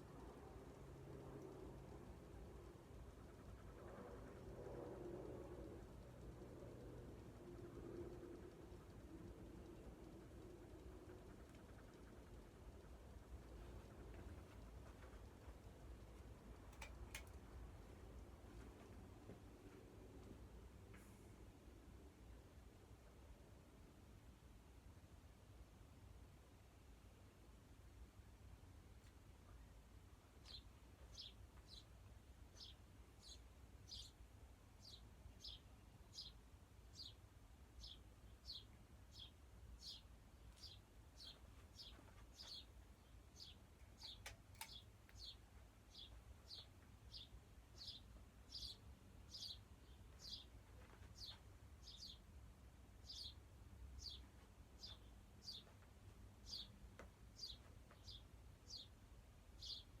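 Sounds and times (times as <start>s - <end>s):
ceiling fan humming: 0.0s - 57.4s.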